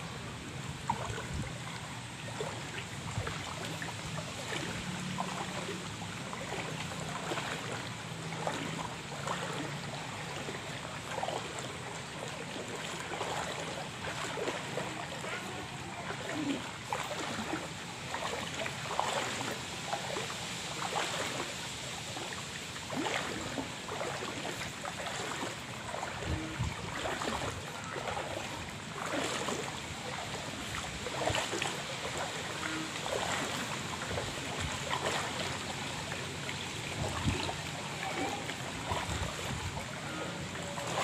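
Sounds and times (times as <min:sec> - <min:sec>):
wading steps in water: 0:00.0 - 0:41.0
water rushing: 0:00.0 - 0:41.0.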